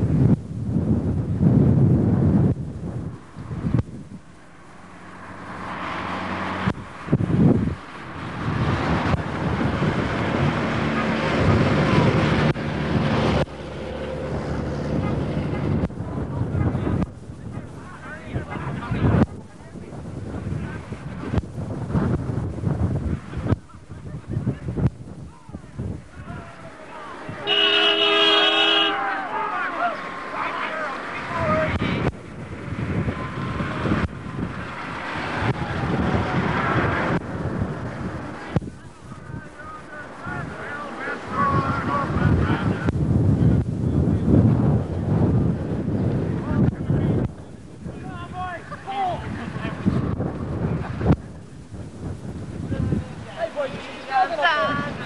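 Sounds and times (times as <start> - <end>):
faint outdoor noise: 0.0 - 55.0
vehicles driving past: 0.0 - 55.0
wind buffeting microphone: 0.0 - 55.0.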